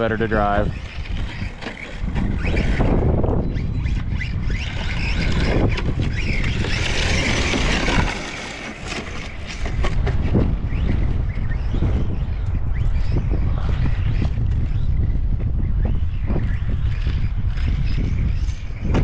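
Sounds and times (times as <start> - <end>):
rc car motor whining: 0.0 - 15.0, 15.6 - 18.8
wind buffeting microphone: 0.0 - 19.0.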